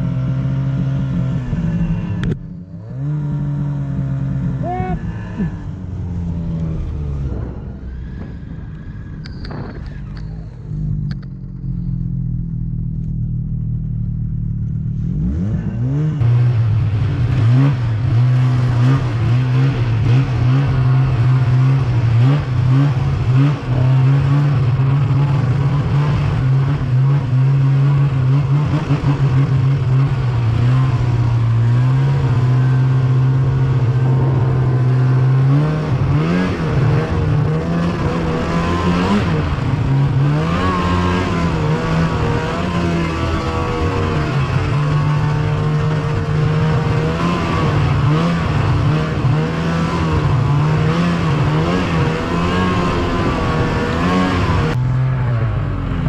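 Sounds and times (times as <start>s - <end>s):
snowmobile engine revving: 0.0s - 12.0s, 14.9s - 56.0s.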